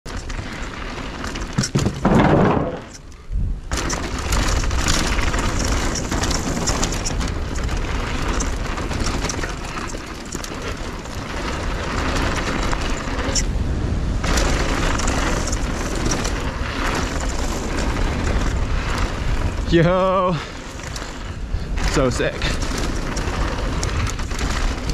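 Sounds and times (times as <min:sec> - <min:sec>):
tyres rolling over dirt and gravel: 0:00.1 - 0:24.9
wind rushing over microphone: 0:01.6 - 0:24.9.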